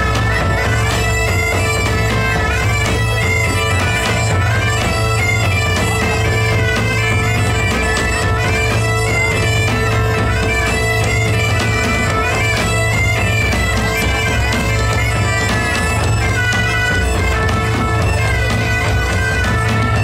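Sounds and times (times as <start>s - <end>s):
bagpipes playing: 0.0s - 20.0s
hand drum beat: 0.0s - 20.0s.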